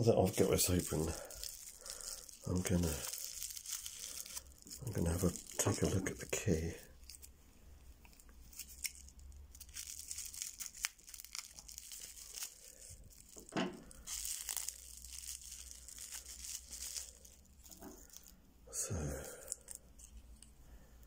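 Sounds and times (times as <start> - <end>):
plastic wrapper crinkling: 0.1 - 20.6.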